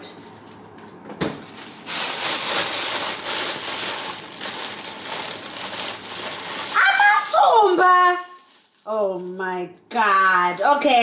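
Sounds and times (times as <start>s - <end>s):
plastic bag rustling: 0.0s - 9.6s.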